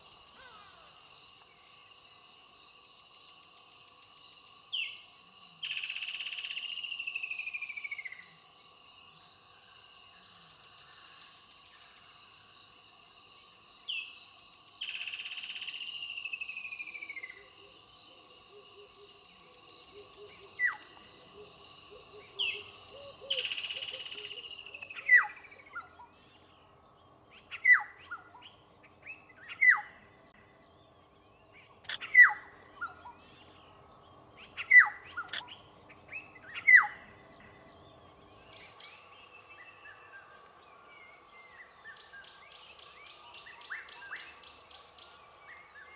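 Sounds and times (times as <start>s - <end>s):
insect drone: 0.0s - 45.9s.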